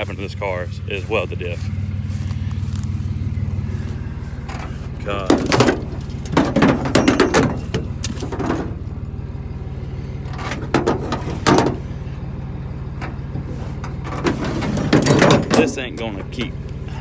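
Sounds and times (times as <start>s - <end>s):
diesel truck engine idling: 0.0s - 17.0s
clunks and rattles: 2.5s - 9.6s, 10.2s - 17.0s.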